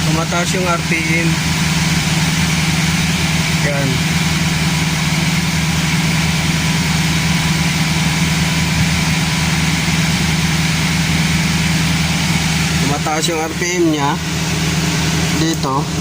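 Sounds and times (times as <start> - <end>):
car engine at raised idle: 0.0 - 16.0.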